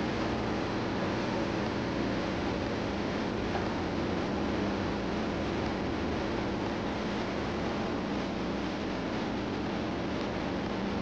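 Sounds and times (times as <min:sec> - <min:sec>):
engine room machinery roar: 0:00.0 - 0:11.0
low hum: 0:00.0 - 0:11.0.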